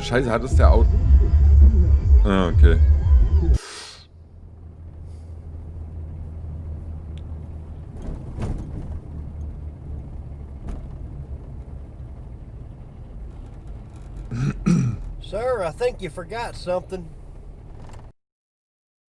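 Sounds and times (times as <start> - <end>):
car road and engine rumble: 0.0 - 18.2.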